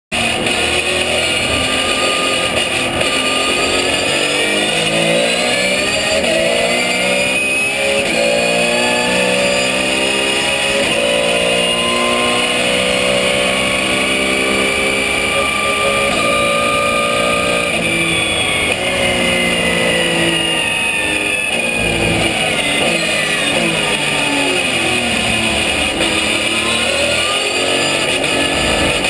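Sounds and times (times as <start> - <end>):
race car engine accelerating: 0.1 - 29.0.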